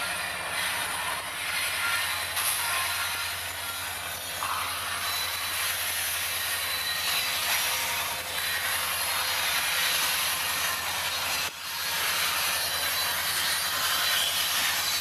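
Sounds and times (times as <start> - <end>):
steel wheels rolling on rail: 0.0 - 15.0.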